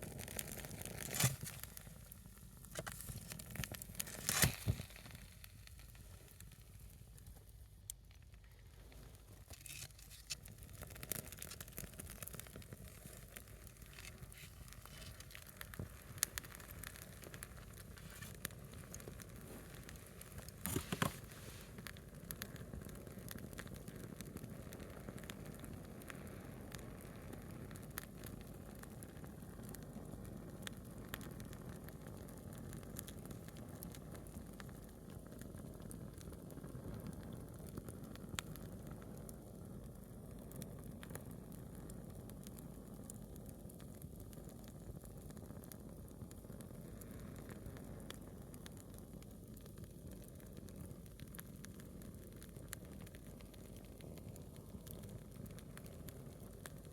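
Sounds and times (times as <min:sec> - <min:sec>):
low steady hiss: 0:00.0 - 0:56.9
wood fire crackling and popping: 0:00.0 - 0:56.9.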